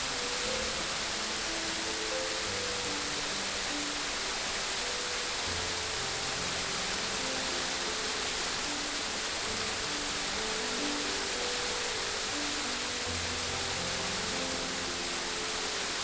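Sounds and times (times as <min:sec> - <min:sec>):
rushing water: 0:00.0 - 0:16.0
soft slow music notes: 0:00.0 - 0:16.0.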